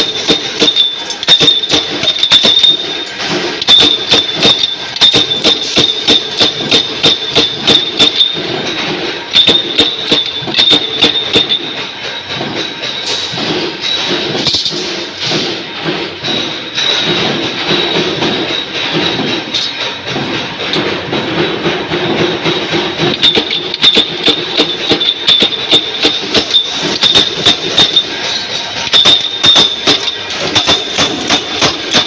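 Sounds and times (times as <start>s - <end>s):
high machine whine: 0.0s - 32.0s
punch press metallic clatter: 0.0s - 32.0s.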